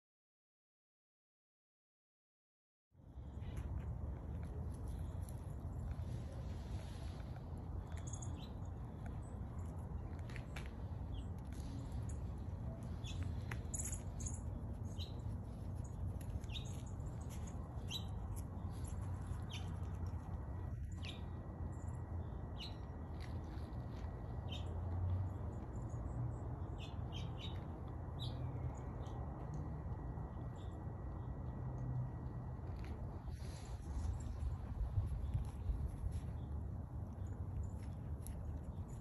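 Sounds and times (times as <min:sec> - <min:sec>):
low steady rumble: 0:03.0 - 0:39.0
small birds chirping: 0:03.2 - 0:31.5, 0:32.8 - 0:39.0.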